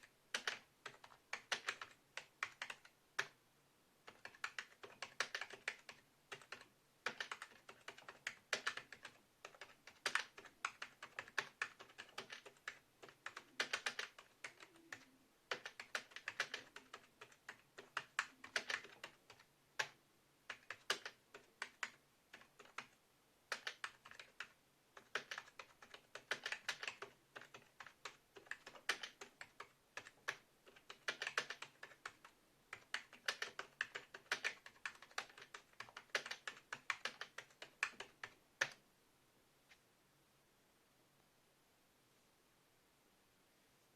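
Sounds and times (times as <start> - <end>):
computer keyboard typing: 0.0 - 3.4, 4.0 - 38.8.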